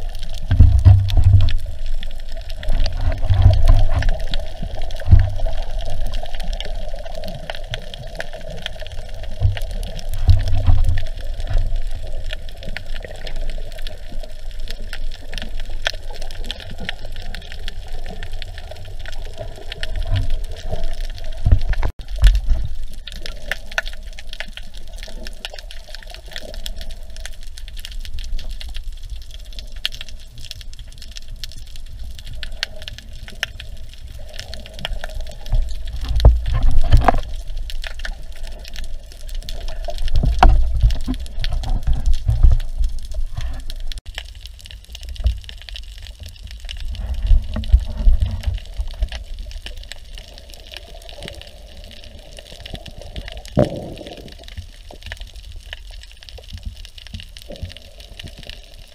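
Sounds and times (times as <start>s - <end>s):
muffled underwater rush: 0.0s - 44.0s, 46.5s - 56.3s
crackle of fine clicks: 0.0s - 58.9s.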